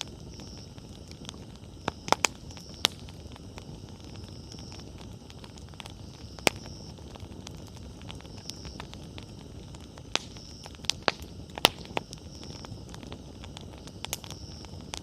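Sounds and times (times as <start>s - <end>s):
campfire rustling: 0.0s - 15.0s
firewood crackling and popping: 0.0s - 15.0s.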